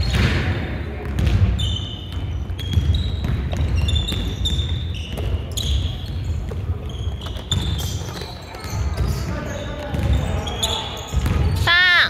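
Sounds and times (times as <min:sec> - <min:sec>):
basketball bouncing on floor: 0:00.0 - 0:11.7
sneakers squeaking on hardwood: 0:00.0 - 0:12.0.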